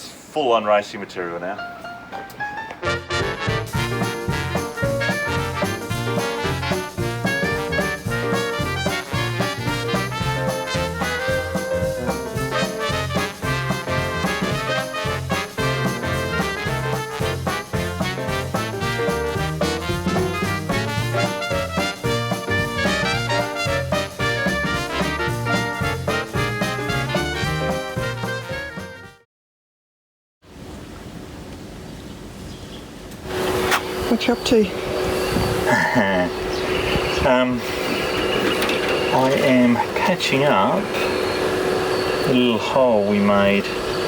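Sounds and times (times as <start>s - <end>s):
swing music with brass: 2.7s - 29.2s, 33.3s - 44.0s.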